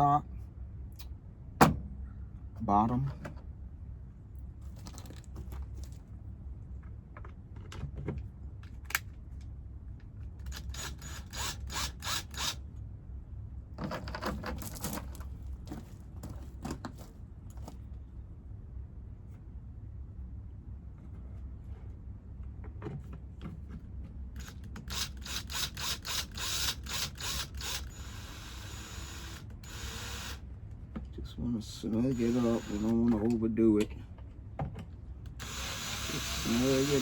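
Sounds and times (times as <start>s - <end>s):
low steady rumble: 0.0s - 37.0s.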